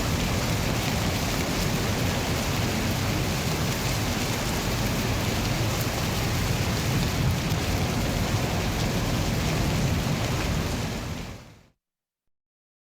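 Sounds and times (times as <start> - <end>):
heavy rain: 0.0 - 11.7.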